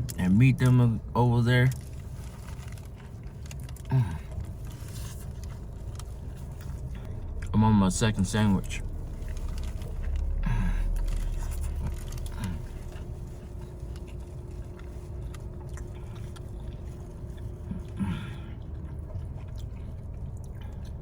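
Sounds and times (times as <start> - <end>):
steady low hum: 0.0 - 21.0
person chewing food: 1.7 - 7.6, 8.7 - 21.0.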